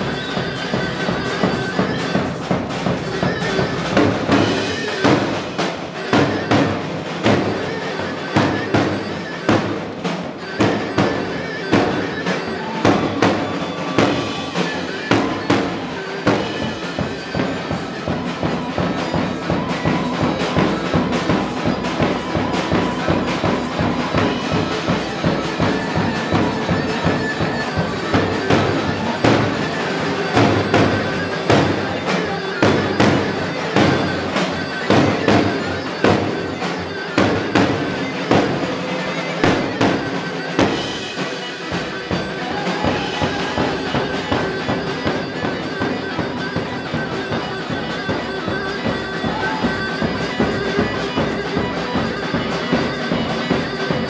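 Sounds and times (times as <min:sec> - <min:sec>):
driving drum beat: 0:00.0 - 0:54.0
reedy wind instrument melody: 0:00.0 - 0:54.0.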